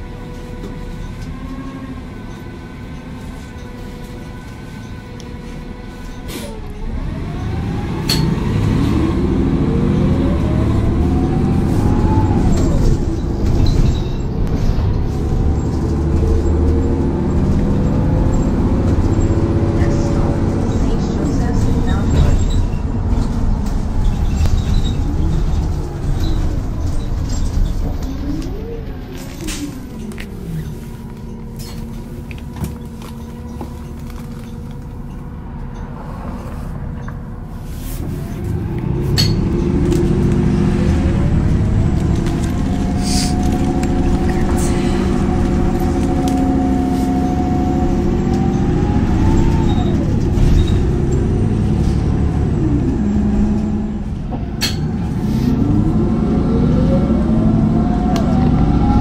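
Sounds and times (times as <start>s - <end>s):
bus engine rumbling and whining: 0.0s - 59.0s.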